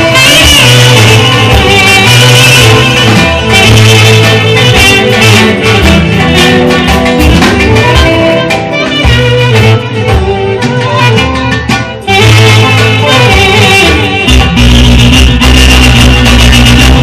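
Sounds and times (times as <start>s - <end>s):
clarinet melody: 0.0s - 17.0s
steady bass: 0.0s - 17.0s
strummed guitar: 0.0s - 17.0s.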